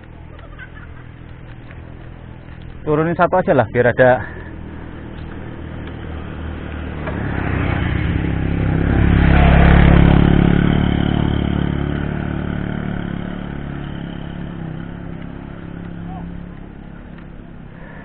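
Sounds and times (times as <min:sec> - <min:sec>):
motorcycle passing by: 0:00.0 - 0:18.0.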